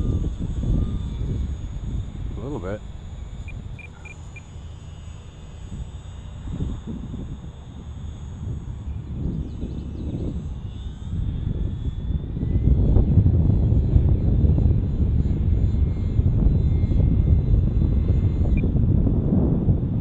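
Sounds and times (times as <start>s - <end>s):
small electric motor whine: 0.0s - 20.0s
wind buffeting microphone: 0.0s - 20.0s.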